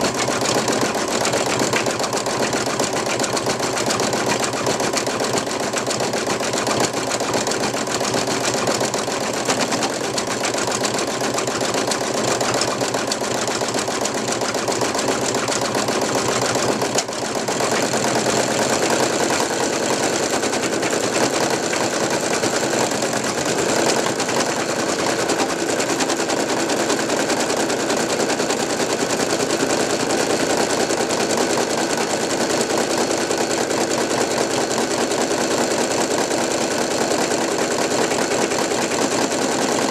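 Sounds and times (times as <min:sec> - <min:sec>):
embroidery machine needle clatter: 0:00.0 - 0:39.9.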